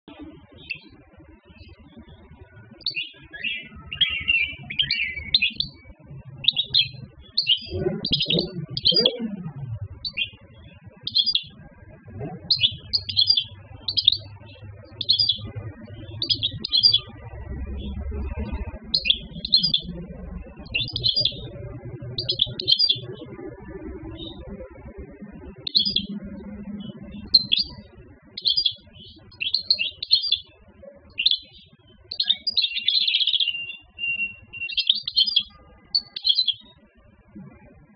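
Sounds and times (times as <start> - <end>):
goldfinch twittering: 2.8 - 11.6, 12.4 - 36.8.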